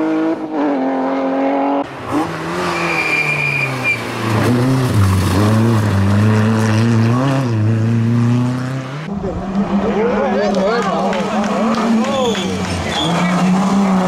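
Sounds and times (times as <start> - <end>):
rally car engine revving hard: 0.0 - 14.0.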